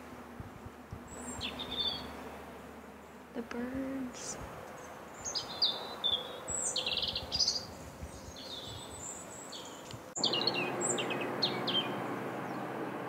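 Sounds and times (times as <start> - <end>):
steady low hum: 0.0 - 13.0
birds chirping in trills: 0.7 - 13.0.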